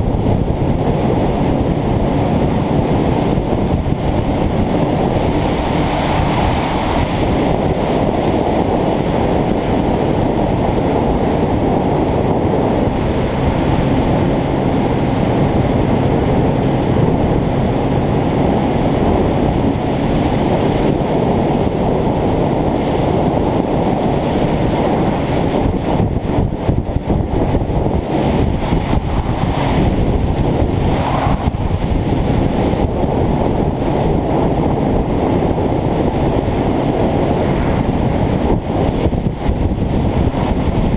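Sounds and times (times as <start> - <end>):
engine noise: 0.0 - 40.9
road noise: 0.0 - 40.9
wind buffeting microphone: 0.0 - 40.9.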